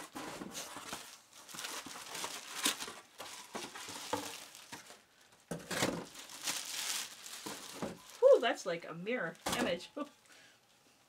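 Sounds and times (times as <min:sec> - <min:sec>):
plastic wrap crinkling: 0:00.0 - 0:10.3.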